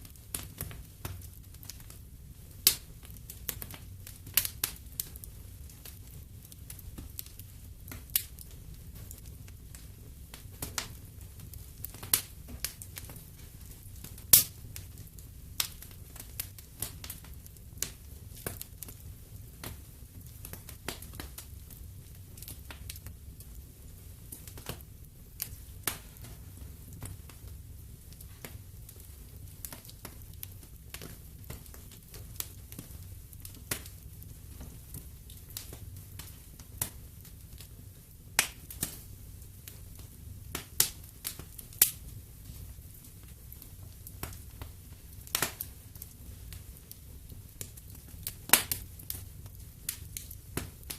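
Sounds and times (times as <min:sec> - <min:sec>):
low rumble of flames: 0:00.0 - 0:50.9
sharp pops of fire: 0:00.0 - 0:50.9
wood fire crackling: 0:00.0 - 0:50.9.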